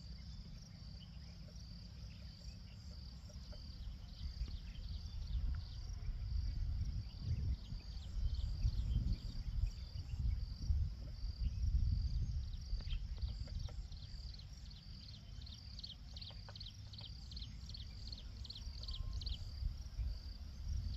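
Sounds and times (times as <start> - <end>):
insect chirping: 0.0 - 20.9.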